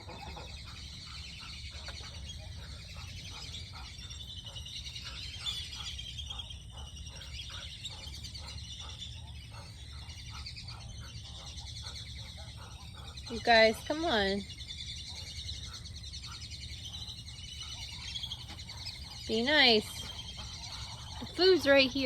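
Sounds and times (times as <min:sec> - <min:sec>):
ducks and poultry calling: 0:00.0 - 0:22.0
high chirping: 0:00.0 - 0:22.0
low constant hum: 0:00.0 - 0:22.0.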